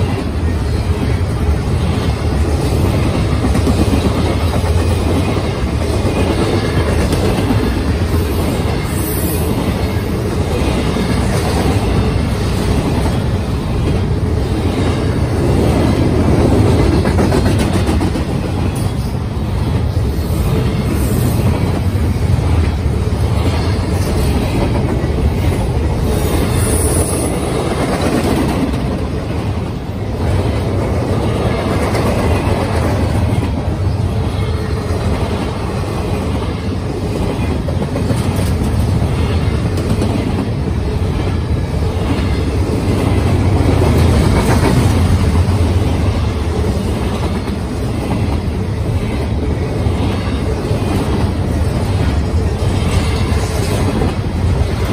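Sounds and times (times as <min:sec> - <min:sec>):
steel wheels rumbling on rails: 0:00.0 - 0:54.9.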